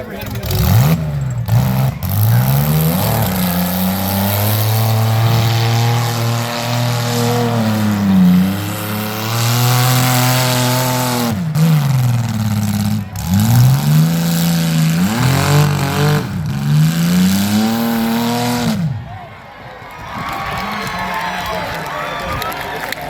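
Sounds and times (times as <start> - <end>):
car engines revving hard: 0.0 - 19.1
engine running steadily: 0.0 - 19.2.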